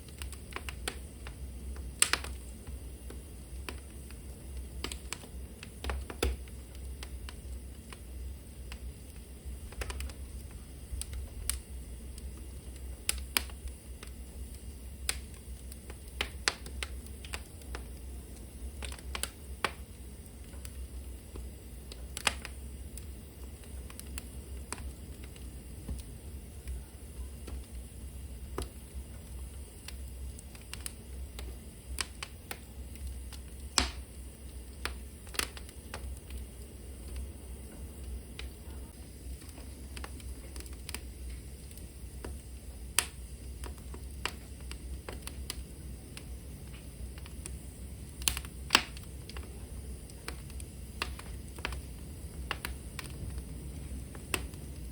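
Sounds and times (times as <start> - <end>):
low steady rumble: 0.0 - 54.9
wood fire crackling and popping: 0.0 - 54.9.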